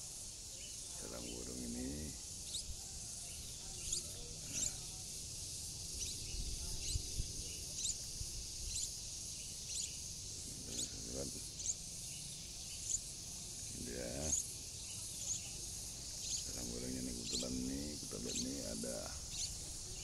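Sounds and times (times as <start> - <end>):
high insect drone: 0.0 - 20.0
small bird chirping: 0.0 - 20.0.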